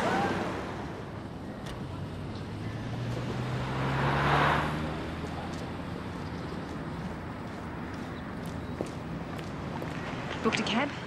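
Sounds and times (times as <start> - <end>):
car driving past: 0.0 - 10.3.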